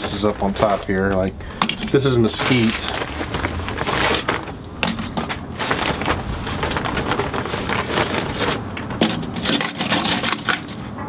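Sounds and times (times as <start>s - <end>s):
charcoal clinking and rustling: 0.0s - 11.0s.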